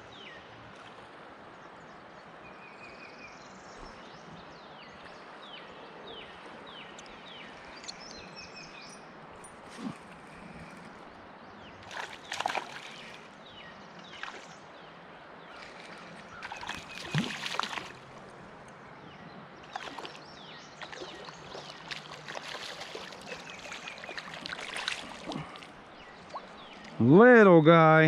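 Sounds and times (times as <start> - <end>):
creek water splashing: 3.6 - 27.7.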